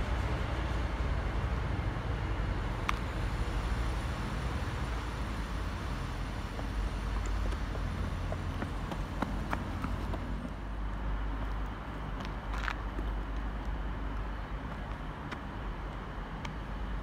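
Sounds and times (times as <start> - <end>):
train rumbling: 0.0 - 15.6.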